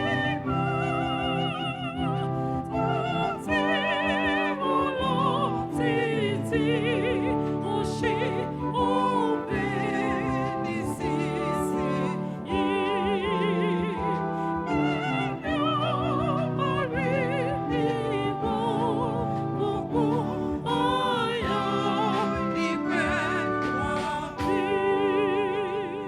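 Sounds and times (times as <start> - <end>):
singing with heavy vibrato: 0.0 - 26.0
sustained instrumental chords: 0.0 - 26.0.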